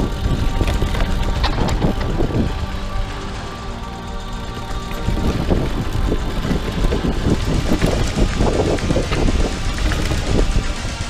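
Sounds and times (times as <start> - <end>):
mountain bike rattling on rocky trail: 0.0 - 11.0
music with sustained tones: 0.0 - 11.0
wind buffeting microphone: 0.0 - 11.0.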